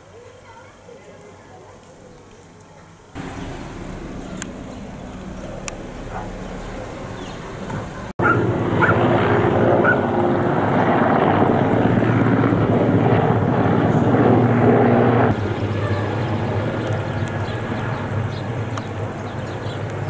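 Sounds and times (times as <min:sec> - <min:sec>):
helicopter flying overhead: 0:03.2 - 0:20.0.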